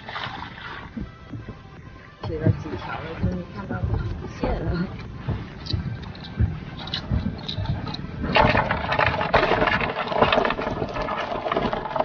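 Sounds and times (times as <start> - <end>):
low knocks: 0.9 - 12.0
crab nets clattering and rattling: 2.2 - 12.0.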